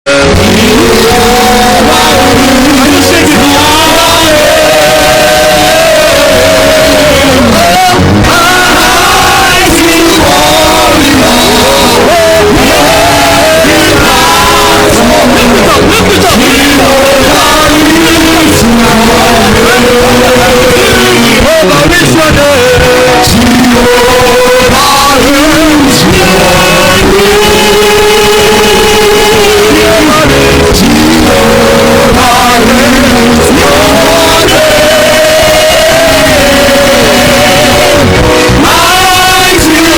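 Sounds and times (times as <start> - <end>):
person singing: 0.0 - 39.9
worship music: 0.1 - 39.9.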